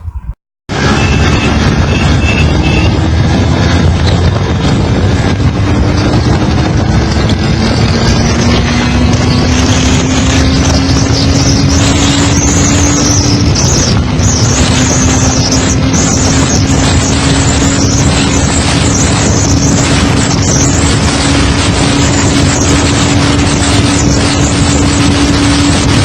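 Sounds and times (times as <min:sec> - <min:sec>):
wind noise on microphone: 0:00.0 - 0:26.0
two-stroke engine at speed: 0:00.7 - 0:26.0.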